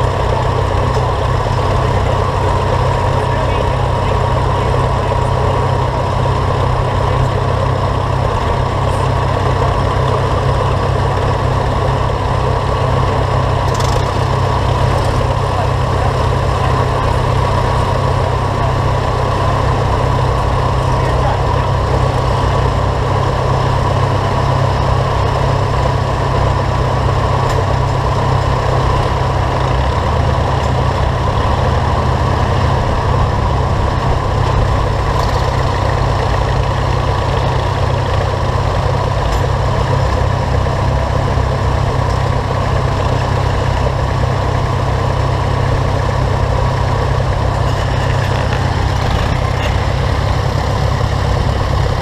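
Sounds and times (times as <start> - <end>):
tractor engine idling: 0.0 - 52.0.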